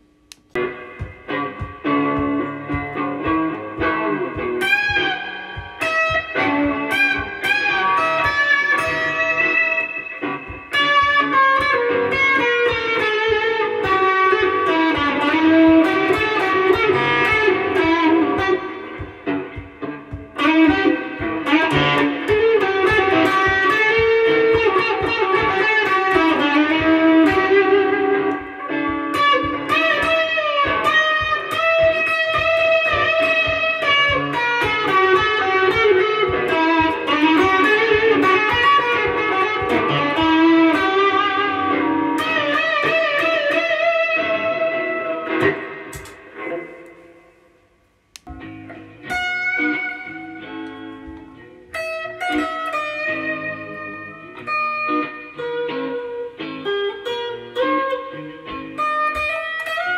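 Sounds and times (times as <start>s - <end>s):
overdriven electric guitar lead: 0.0s - 59.9s.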